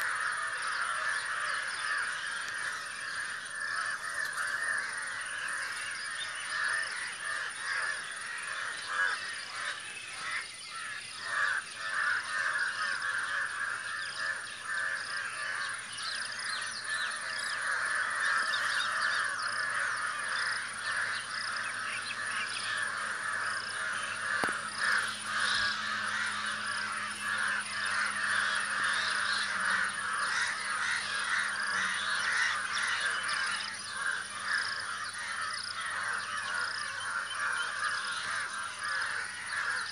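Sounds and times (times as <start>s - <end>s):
crows cawing: 0.0s - 39.9s.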